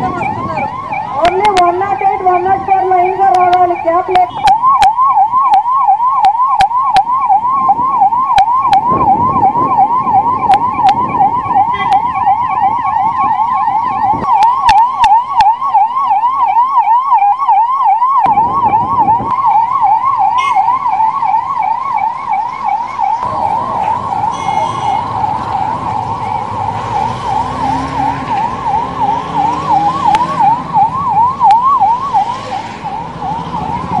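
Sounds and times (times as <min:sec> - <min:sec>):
ambulance siren yelping: 0:00.0 - 0:34.0
road traffic noise: 0:00.0 - 0:34.0.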